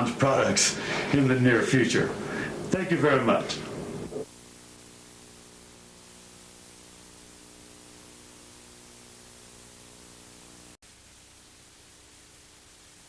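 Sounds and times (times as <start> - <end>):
low electrical hum: 0.0 - 13.0
noise floor hiss: 0.0 - 13.0.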